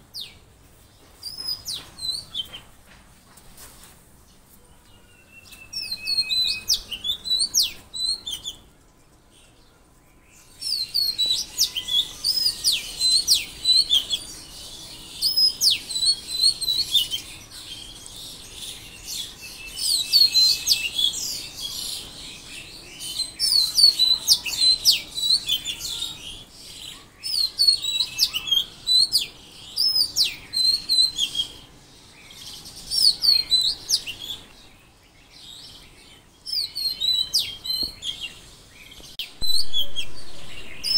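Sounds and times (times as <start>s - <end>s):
songbirds chirping and whistling: 0.0s - 40.9s.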